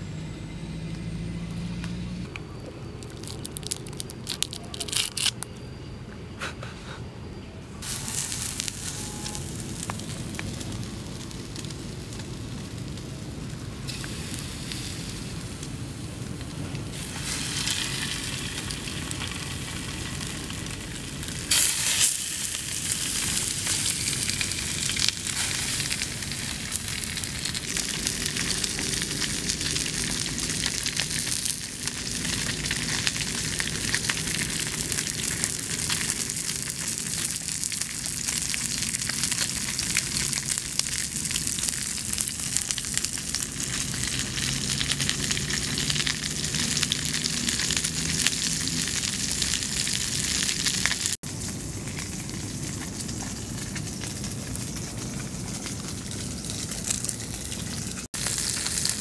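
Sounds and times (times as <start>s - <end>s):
fish sizzling in a pan: 7.8s - 16.1s, 16.9s - 59.0s.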